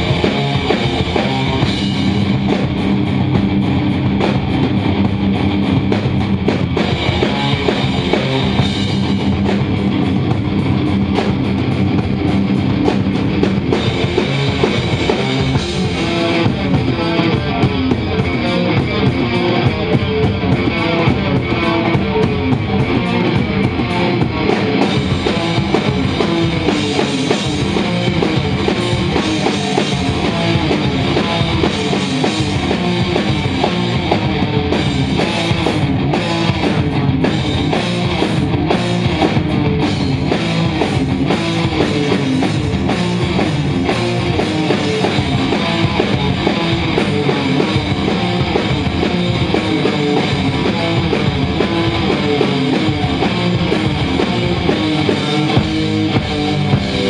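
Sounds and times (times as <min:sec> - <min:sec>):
loud rock music: 0:00.0 - 0:57.0.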